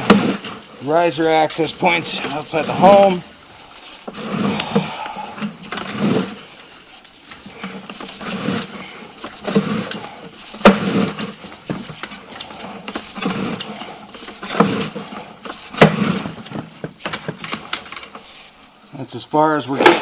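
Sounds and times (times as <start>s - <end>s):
cable knocking and scraping in pipe: 0.0s - 18.5s.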